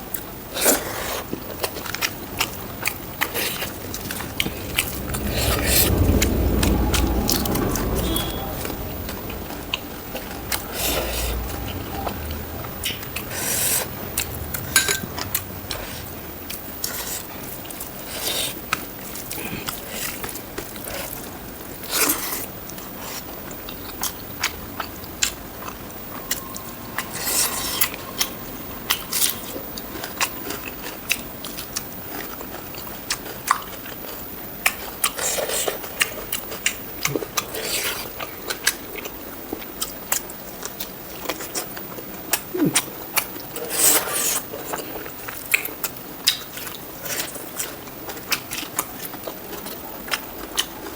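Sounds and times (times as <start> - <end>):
chewing and biting ribs: 0.1 - 50.9.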